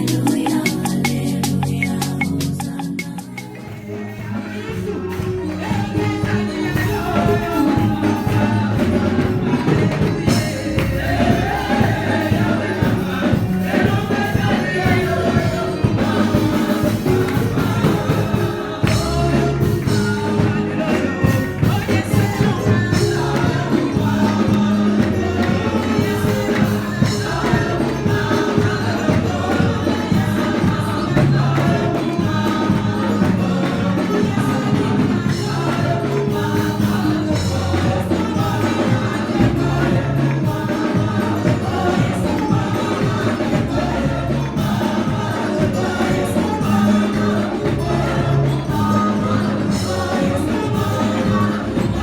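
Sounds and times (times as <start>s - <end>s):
band with bass line: 0.0s - 52.0s
choir singing: 0.0s - 52.0s
tambourine beat: 0.0s - 52.0s.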